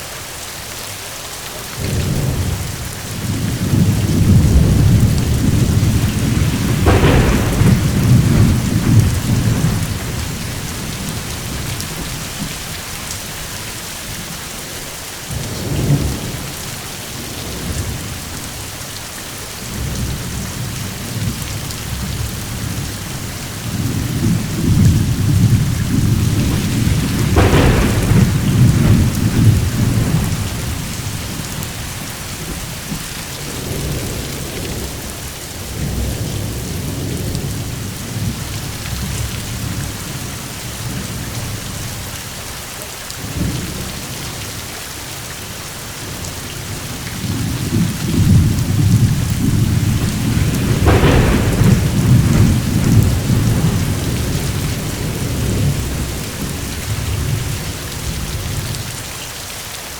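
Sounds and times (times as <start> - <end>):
steady rain: 0.0 - 59.9
thunder rumbling and clapping: 1.8 - 18.8, 19.5 - 42.4, 43.2 - 59.1.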